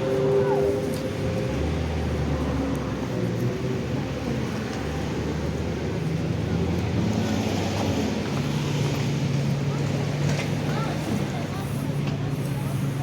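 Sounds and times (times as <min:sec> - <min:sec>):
faint voices: 0:00.0 - 0:03.4, 0:04.2 - 0:13.0
engine droning: 0:00.0 - 0:12.9.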